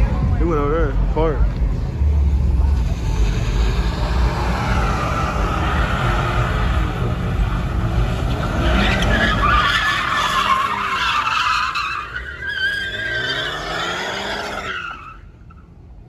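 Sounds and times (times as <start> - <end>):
car engine revving: 1.5 - 15.0
tire screech: 1.9 - 16.0.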